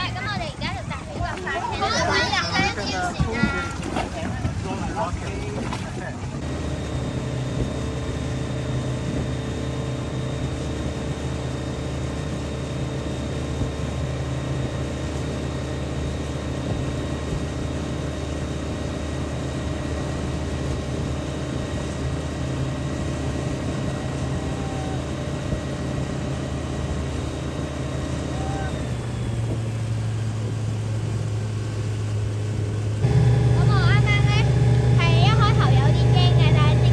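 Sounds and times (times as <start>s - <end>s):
speedboat engine running: 0.0s - 36.9s.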